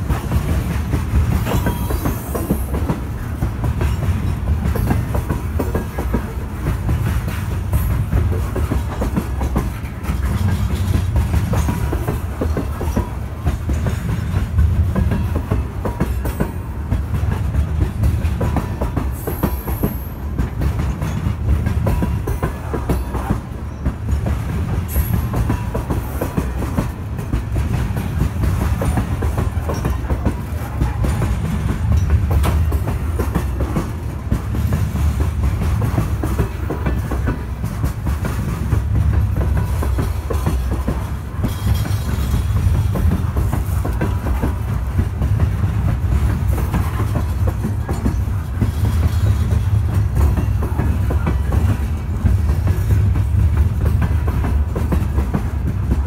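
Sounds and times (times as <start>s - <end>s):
train cars rumbling past: 0.0s - 56.0s
wheels clacking over rail joints: 0.0s - 56.0s.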